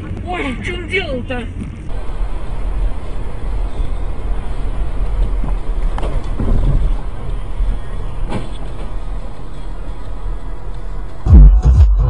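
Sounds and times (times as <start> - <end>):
car engine and tyre rumble: 0.0 - 11.6.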